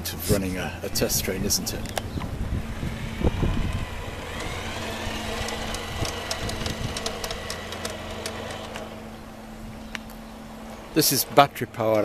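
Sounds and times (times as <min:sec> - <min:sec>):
electric motor whine: 0:01.0 - 0:12.0
wheels clicking on track: 0:01.7 - 0:12.0.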